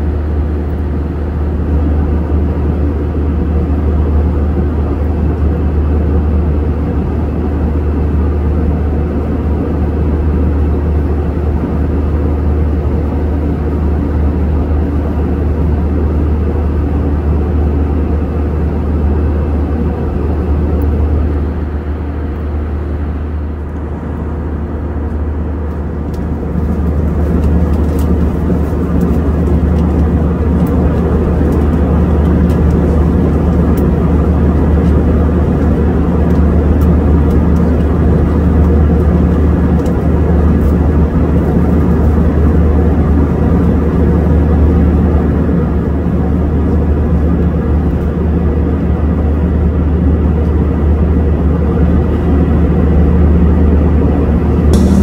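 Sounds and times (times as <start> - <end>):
airliner cabin rumble and air rush: 0.0 - 55.0.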